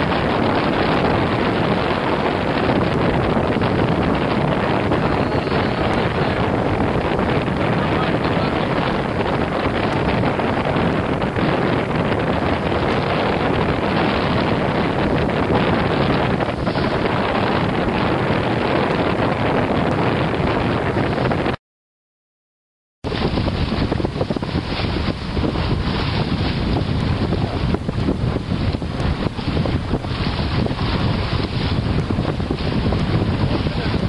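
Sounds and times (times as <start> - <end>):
water rushing along hull: 0.0 - 21.6, 23.0 - 34.0
wind buffeting microphone: 0.0 - 21.6, 23.0 - 34.0.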